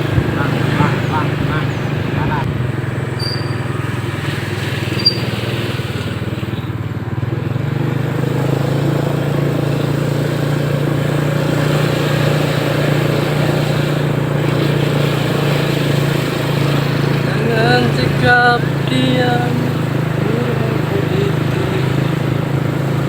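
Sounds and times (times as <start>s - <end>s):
small motorcycle engine running: 0.0s - 23.0s.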